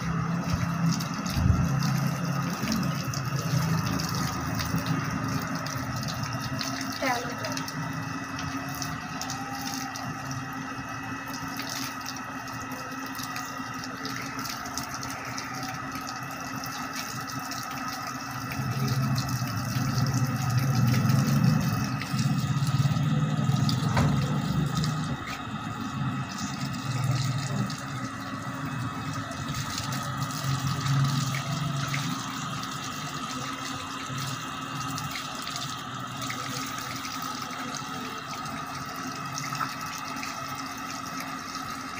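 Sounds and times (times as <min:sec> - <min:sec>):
steady hum: 0:00.0 - 0:41.9
water splashing on wet paving: 0:00.0 - 0:41.9.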